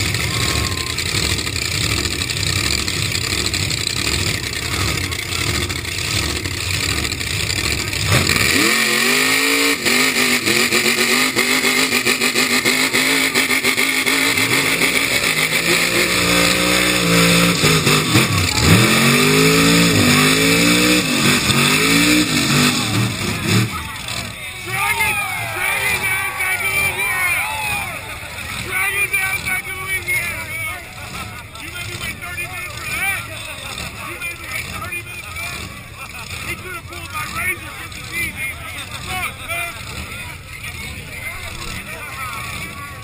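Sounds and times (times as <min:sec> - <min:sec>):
tires spinning: 0:00.0 - 0:43.0
truck engines revving: 0:00.0 - 0:43.0.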